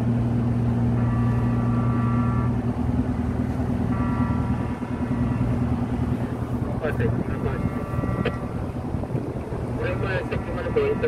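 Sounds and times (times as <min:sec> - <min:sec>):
ship machinery droning: 0:00.0 - 0:11.0
high multi-tone whine: 0:00.8 - 0:08.8, 0:09.6 - 0:11.0.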